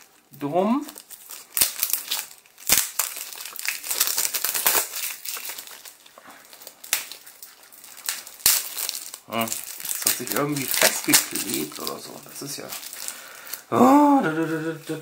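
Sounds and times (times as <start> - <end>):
plastic wrap crinkling: 0.0 - 13.7.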